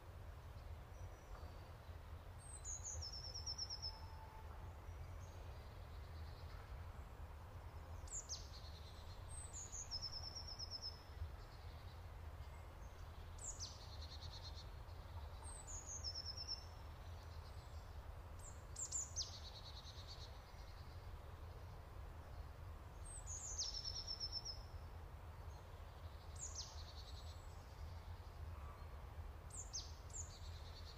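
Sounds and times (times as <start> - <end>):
songbird calls and trills: 0.4 - 30.9.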